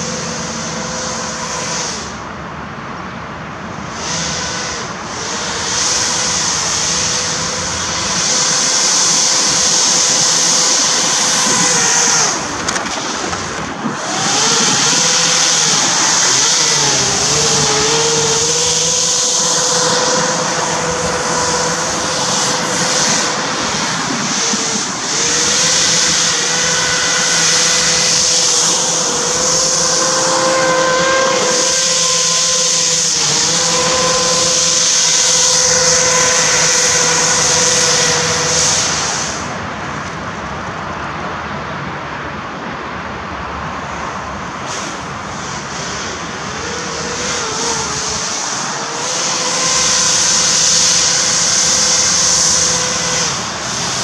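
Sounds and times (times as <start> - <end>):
propeller fans whining: 0.0 - 54.0
rush of air: 3.6 - 40.6, 43.5 - 54.0.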